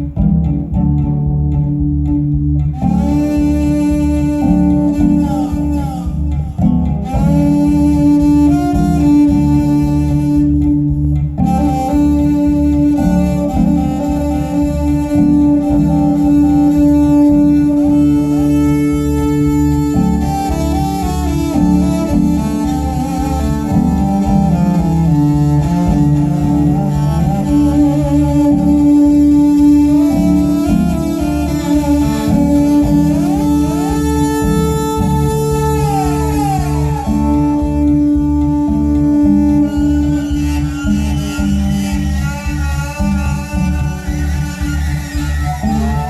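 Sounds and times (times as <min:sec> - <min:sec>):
bowed cello jazz line: 0:00.0 - 0:46.0
plucked bass line: 0:00.0 - 0:46.0.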